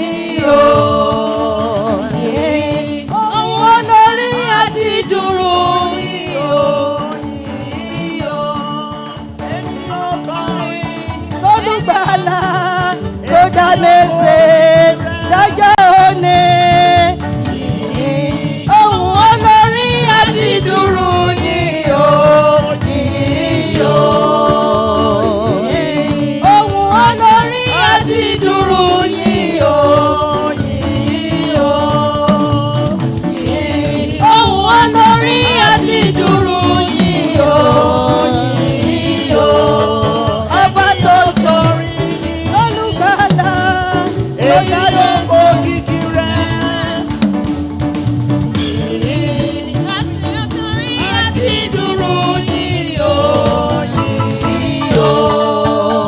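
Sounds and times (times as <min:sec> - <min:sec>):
person singing with vibrato: 0:00.0 - 0:47.6, 0:48.6 - 0:56.0
instrumental accompaniment: 0:00.0 - 0:56.0.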